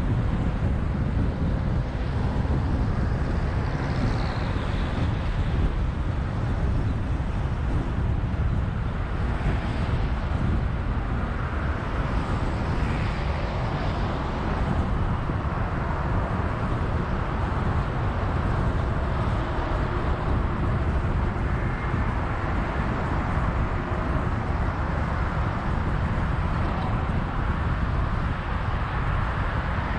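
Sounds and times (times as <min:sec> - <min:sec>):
road and tyre rumble: 0:00.0 - 0:29.9
traffic noise: 0:00.0 - 0:29.9.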